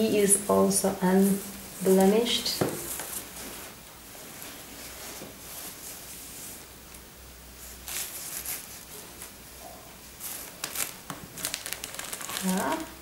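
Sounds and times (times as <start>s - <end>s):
bubble wrap rustling and crinkling: 0.6s - 7.0s, 7.6s - 13.0s.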